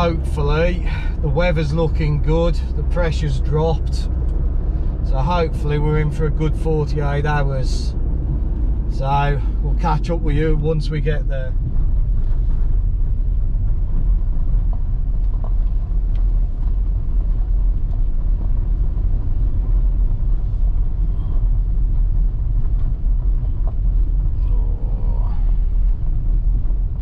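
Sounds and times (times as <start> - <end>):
van engine and tyres rumbling: 0.0 - 27.0.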